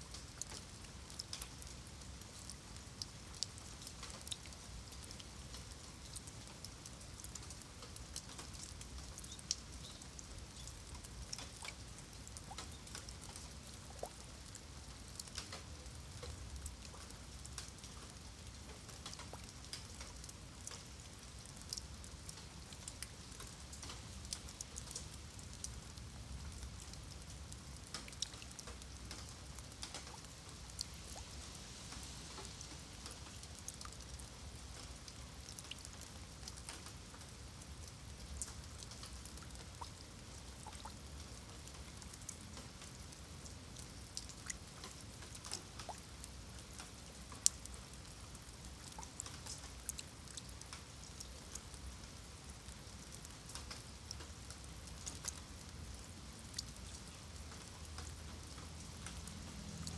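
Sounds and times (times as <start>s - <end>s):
rain pattering on stone paving: 0.0s - 59.9s.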